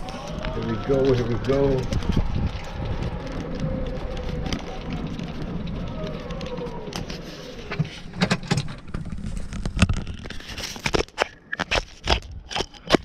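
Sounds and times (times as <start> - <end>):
cart and clubs rattling: 0.0 - 12.9.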